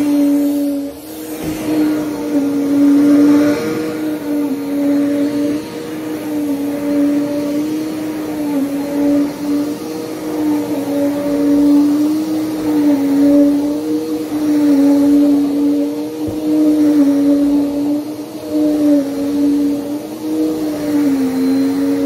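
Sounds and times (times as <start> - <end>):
vacuum cleaner on carpet: 0.0 - 22.0.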